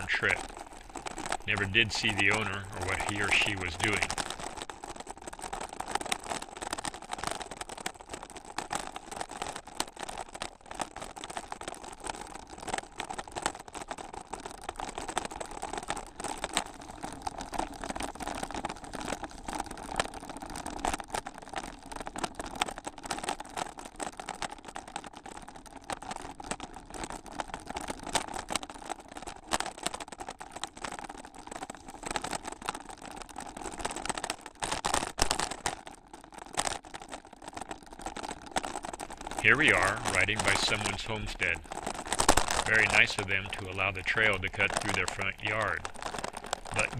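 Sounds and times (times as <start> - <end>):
bicycle tyre noise on dirt: 0.0 - 46.9
bike rattling and clicking: 0.0 - 46.9.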